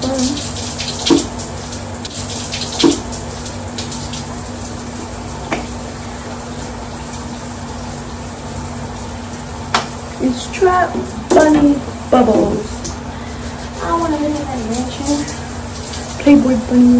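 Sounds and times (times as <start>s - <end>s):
shower water running: 0.0s - 16.9s.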